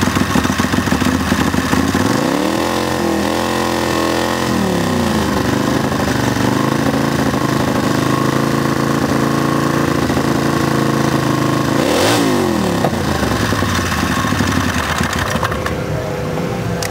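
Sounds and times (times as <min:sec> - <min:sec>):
lawnmower engine running: 0:00.0 - 0:16.9.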